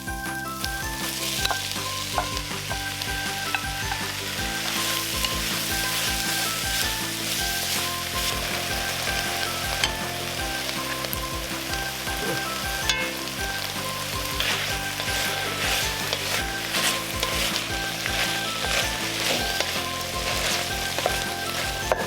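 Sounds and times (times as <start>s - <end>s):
background music melody: 0.0s - 22.0s
food sizzling in a pan: 0.0s - 22.0s.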